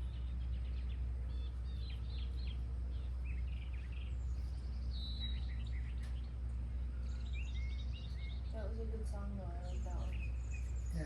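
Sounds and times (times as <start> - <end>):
low background rumble: 0.0 - 11.0
wild birds singing: 0.0 - 11.0.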